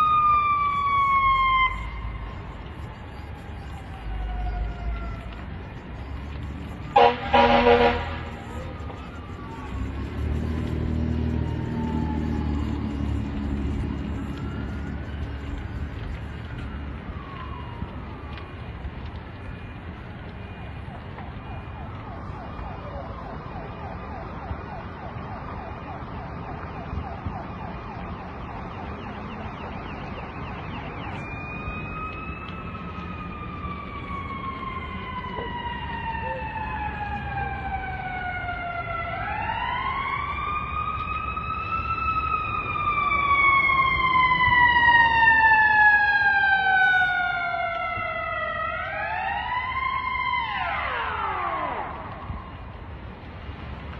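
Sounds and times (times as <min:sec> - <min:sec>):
fire engine siren wailing: 0:00.0 - 0:53.9.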